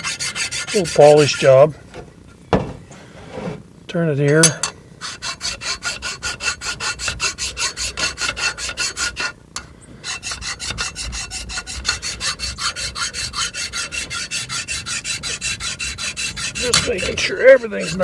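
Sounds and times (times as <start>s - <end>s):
file rasping on metal: 0.0s - 1.7s, 4.4s - 18.0s.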